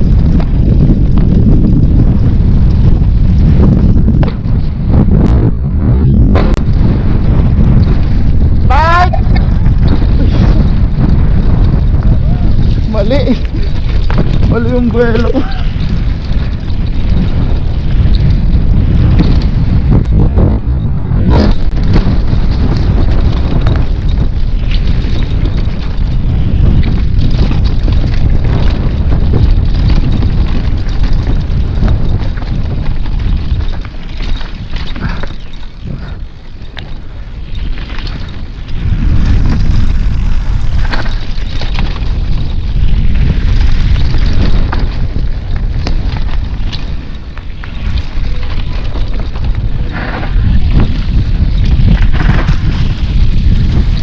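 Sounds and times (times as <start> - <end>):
bike rattling over rocks: 0.0 - 54.0
wind buffeting microphone: 0.0 - 54.0.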